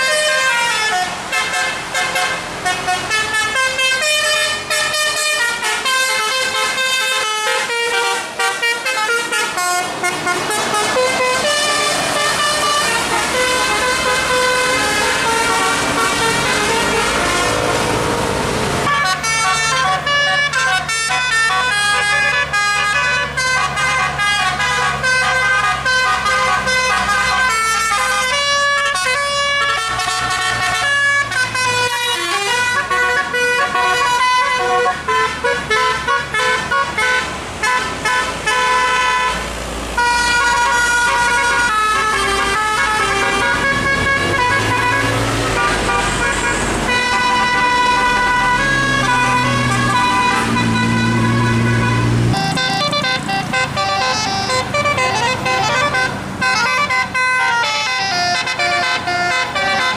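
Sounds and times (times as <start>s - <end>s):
musical air horn: 0.0s - 59.9s
low engine hum: 7.7s - 59.9s.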